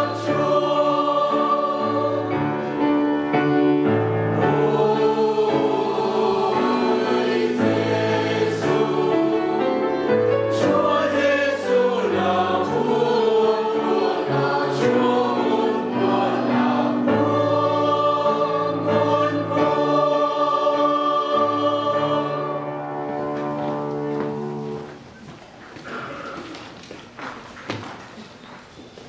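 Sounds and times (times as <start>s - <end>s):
choir singing a hymn: 0.0s - 24.9s
room noise: 0.0s - 29.0s.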